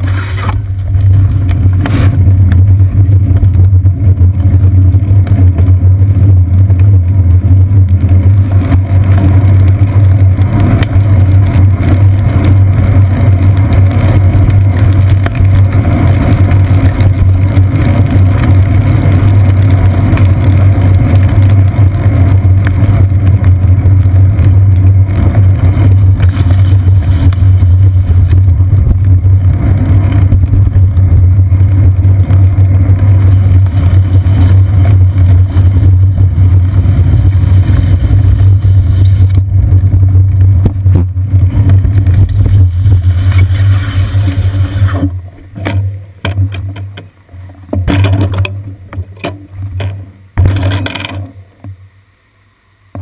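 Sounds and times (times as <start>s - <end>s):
bicycle rumbling on wet road: 0.0s - 51.9s
wind: 0.0s - 53.0s.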